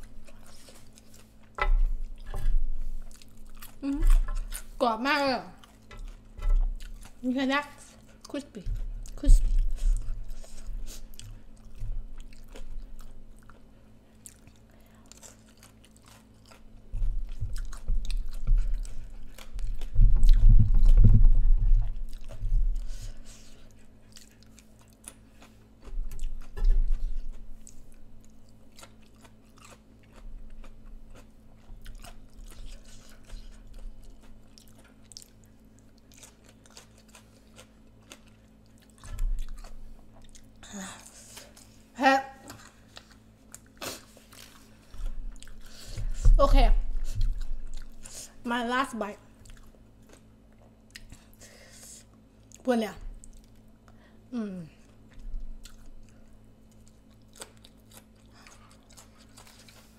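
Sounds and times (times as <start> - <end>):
crunchy chewing: 0.0 - 4.8, 5.5 - 46.1, 47.0 - 48.3, 54.8 - 59.9.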